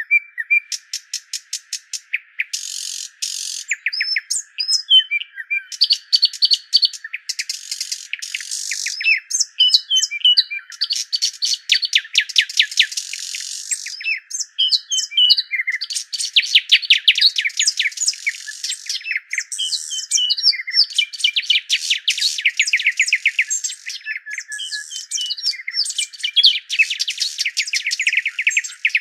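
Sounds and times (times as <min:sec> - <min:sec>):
small birds chirping and twittering: 0:00.0 - 0:29.0.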